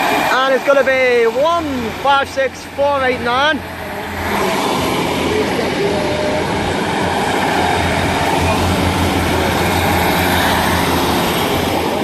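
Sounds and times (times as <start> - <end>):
train diesel engines accelerating: 0.0 - 12.0.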